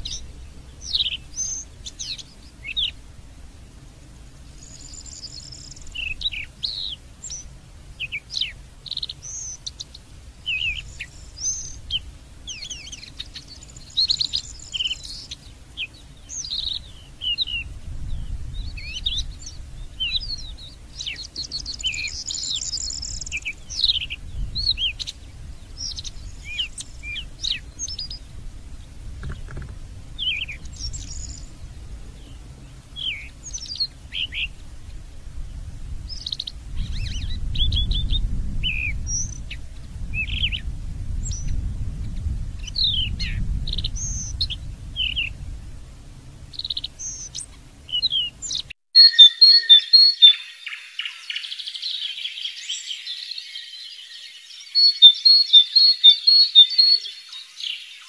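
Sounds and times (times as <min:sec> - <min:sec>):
faint low rumble: 0:00.0 - 0:48.6
songbird singing: 0:00.0 - 0:58.0.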